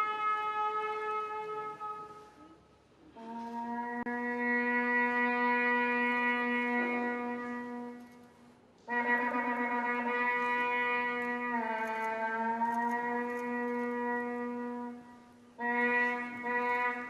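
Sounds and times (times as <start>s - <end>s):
ram's horn blasts: 0.0s - 2.5s, 3.1s - 17.0s.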